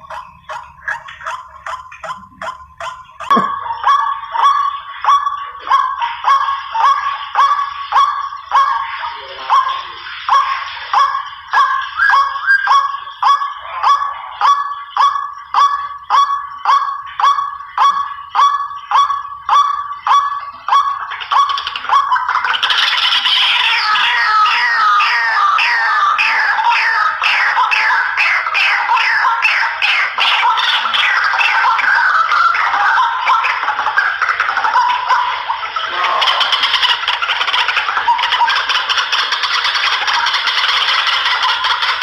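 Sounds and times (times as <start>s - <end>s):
waterhen calling harsh notes: 0.0s - 42.0s.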